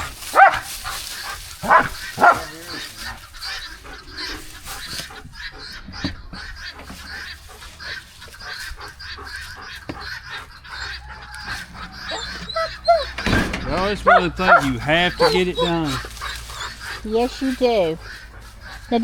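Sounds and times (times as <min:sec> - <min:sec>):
poultry honking calls: 0:00.0 - 0:19.0.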